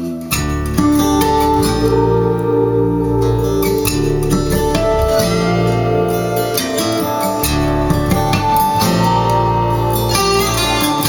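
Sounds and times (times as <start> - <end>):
guitar over bass notes: 0.0 - 11.0.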